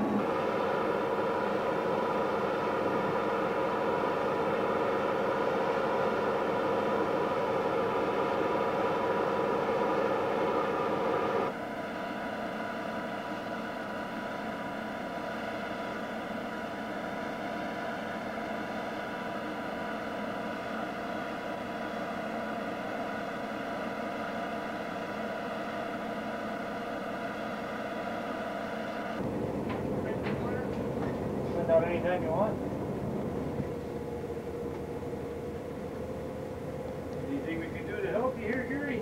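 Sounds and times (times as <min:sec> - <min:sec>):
ship machinery humming: 0:00.0 - 0:39.0.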